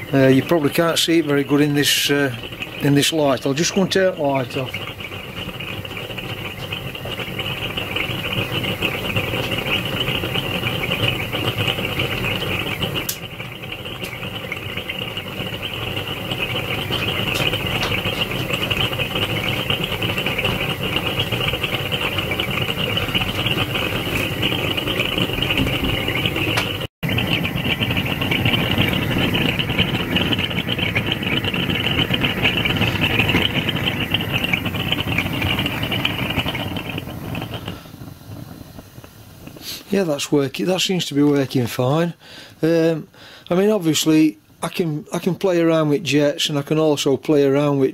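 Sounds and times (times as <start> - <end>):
gas burner hissing and roaring: 0.0 - 47.9.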